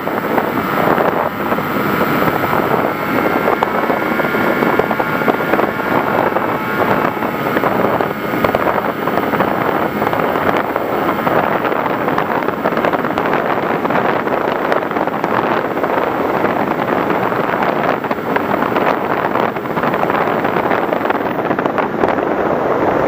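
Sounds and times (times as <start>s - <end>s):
model plane motor whine: 0.0s - 22.2s
wind rush: 0.0s - 23.0s.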